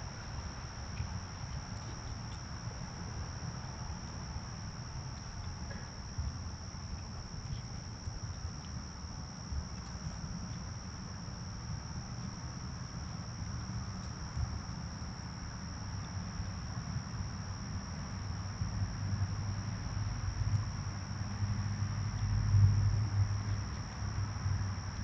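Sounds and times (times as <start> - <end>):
crickets chirring: 0.0 - 25.0.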